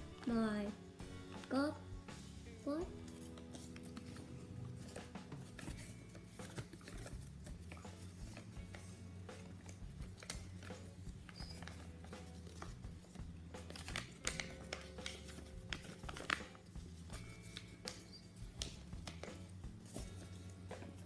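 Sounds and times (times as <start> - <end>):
paper crinkling: 3.0 - 8.8, 9.4 - 21.0.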